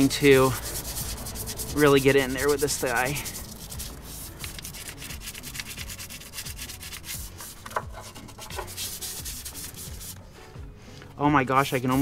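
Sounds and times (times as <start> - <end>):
bristle brush scrubbing: 0.0 - 10.2.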